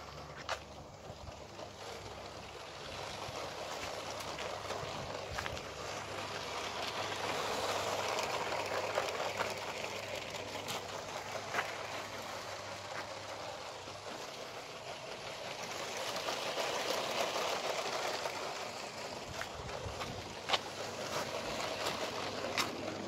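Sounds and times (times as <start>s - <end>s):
toy train motor whir: 0.0s - 23.0s
wheel rattle: 0.0s - 23.0s.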